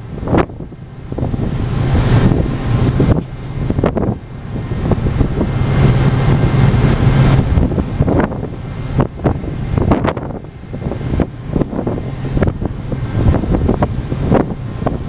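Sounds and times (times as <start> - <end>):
low ship drone: 0.0 - 15.0
wind buffeting microphone: 0.0 - 15.0.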